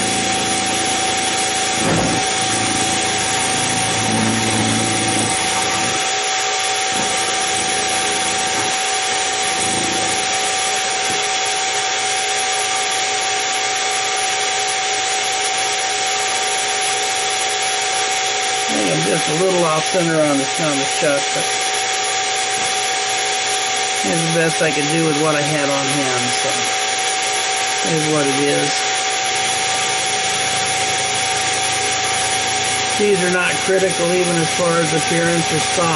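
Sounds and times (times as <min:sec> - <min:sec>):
milling machine cutting metal: 0:00.0 - 0:35.9.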